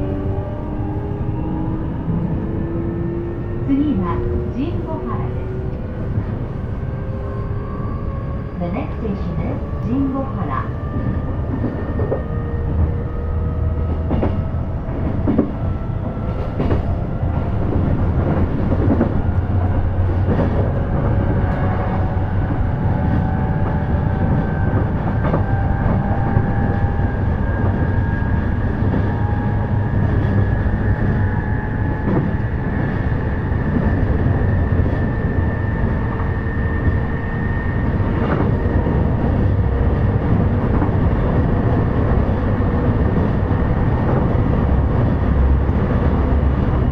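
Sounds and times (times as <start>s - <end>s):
train rumble with motor whine: 0.0s - 46.9s.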